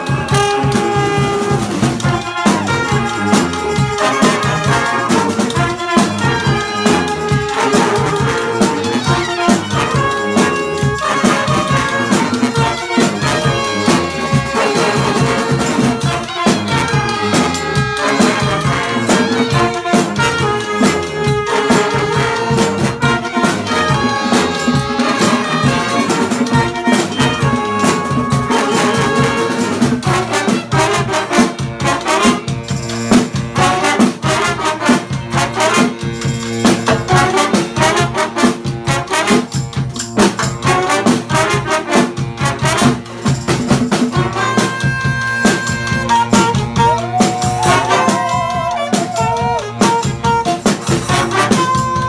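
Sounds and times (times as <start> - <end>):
brass band playing a tune: 0.0 - 52.0.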